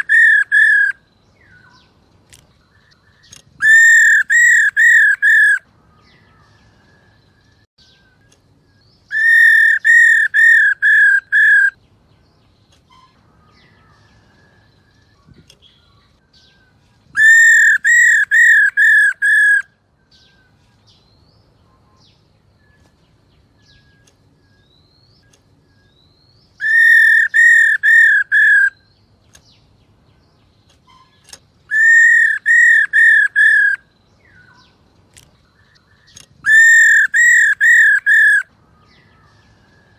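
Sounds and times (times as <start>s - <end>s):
bird calling clear notes: 0.0s - 11.9s, 12.6s - 39.9s.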